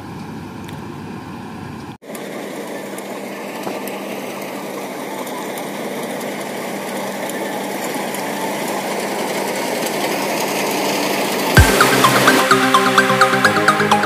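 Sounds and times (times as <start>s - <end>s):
combine harvester engine hum: 0.0s - 14.0s.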